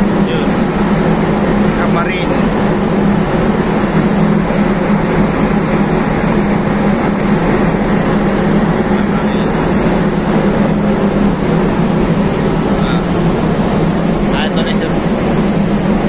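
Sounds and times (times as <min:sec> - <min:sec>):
ship engine droning: 0:00.0 - 0:16.0.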